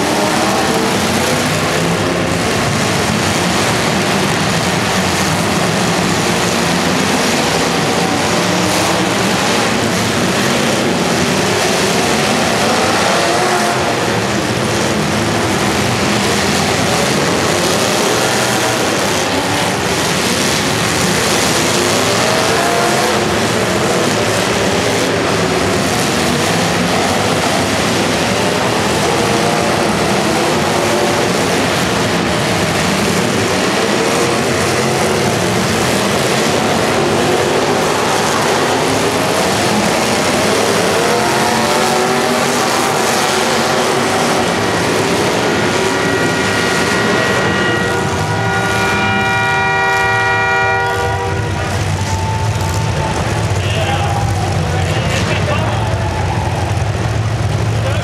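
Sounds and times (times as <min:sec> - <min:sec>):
car engines revving: 0:00.0 - 0:58.0
cars crunching together: 0:00.0 - 0:58.0.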